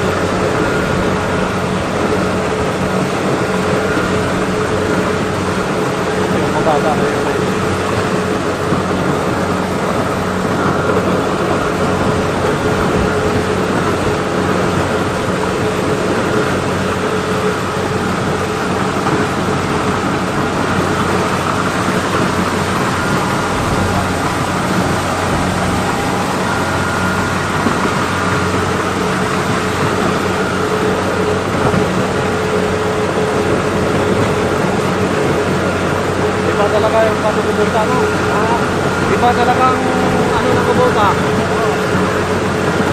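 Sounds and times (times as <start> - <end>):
dense rushing noise: 0.0 - 42.9
harvester engine humming: 0.0 - 42.9.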